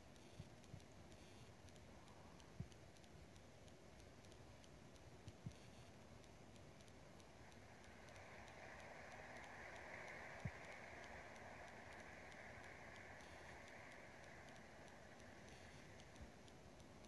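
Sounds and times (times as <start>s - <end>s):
faint regular clicking: 0.0s - 17.0s.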